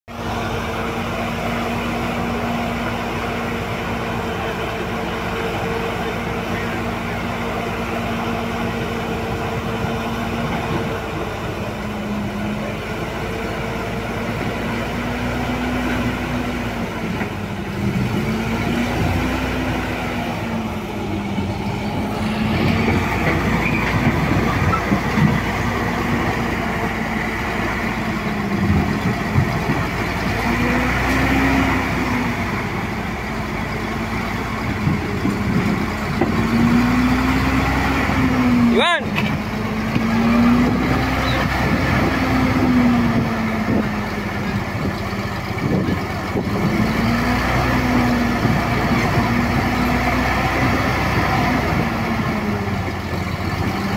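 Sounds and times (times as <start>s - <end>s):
heavy diesel engine running: 0.1s - 53.9s.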